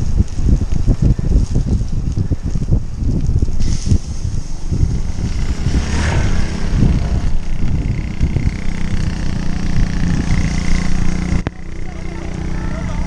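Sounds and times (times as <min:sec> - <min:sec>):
bike tyres on wet road: 0:00.0 - 0:13.0
wind buffeting microphone: 0:00.0 - 0:13.0
motorcycle engine humming: 0:02.2 - 0:13.0.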